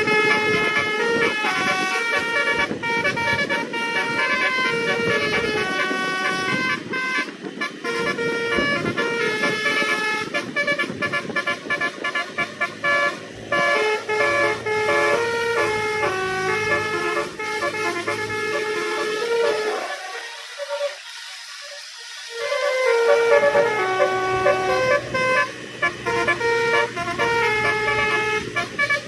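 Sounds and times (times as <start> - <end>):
bus horn playing a tune: 0.0 - 29.0
rumble of noise: 0.0 - 29.0.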